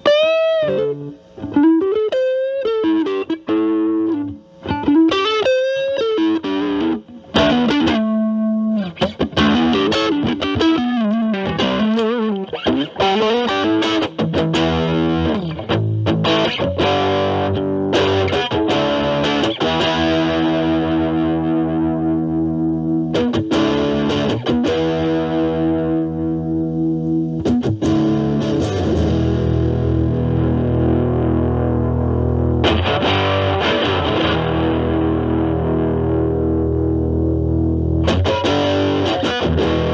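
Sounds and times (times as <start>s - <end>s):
lightly distorted electric guitar: 0.0s - 39.9s.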